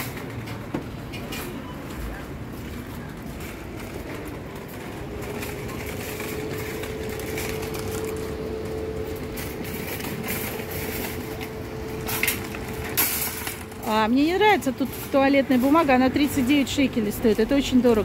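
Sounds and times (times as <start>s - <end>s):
rolling rumble: 0.0s - 18.0s
shopping carts clattering: 0.0s - 18.0s.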